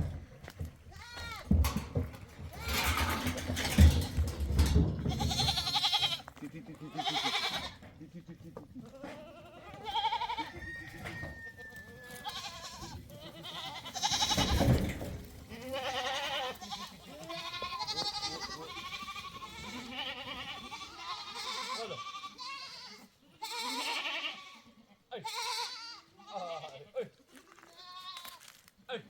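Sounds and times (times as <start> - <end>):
goats bleating: 0.0 - 28.6.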